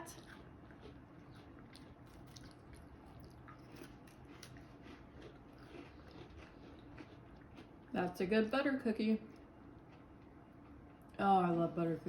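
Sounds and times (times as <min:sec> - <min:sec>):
chewing crisp cookie: 0:00.0 - 0:11.3.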